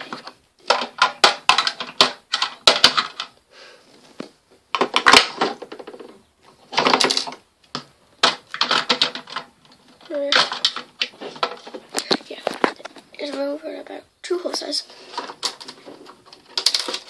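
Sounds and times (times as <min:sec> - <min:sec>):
plastic toys clicking and clattering: 0:00.0 - 0:03.4, 0:04.7 - 0:17.0.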